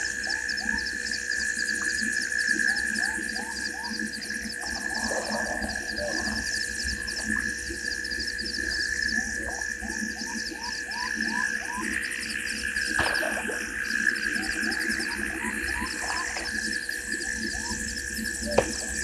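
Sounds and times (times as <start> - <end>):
cricket trilling: 0.0 - 19.0
insect drone: 0.0 - 19.0.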